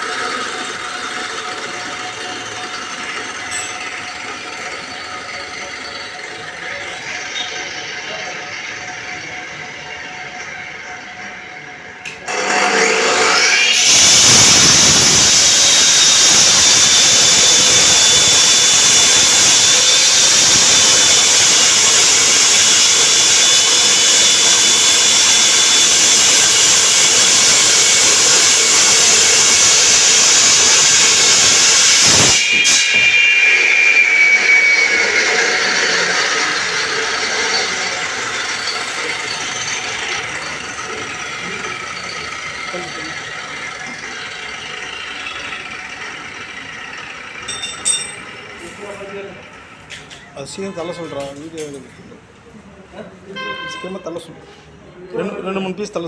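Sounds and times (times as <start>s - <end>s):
concrete saw cutting: 0.0s - 50.1s.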